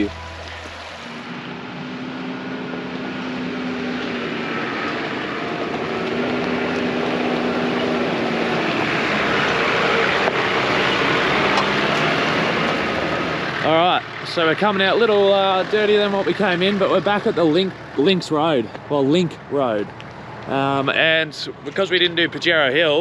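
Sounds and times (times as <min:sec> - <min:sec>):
off-road vehicle engine: 0:00.0 - 0:23.0
tyres on dirt track: 0:00.0 - 0:23.0.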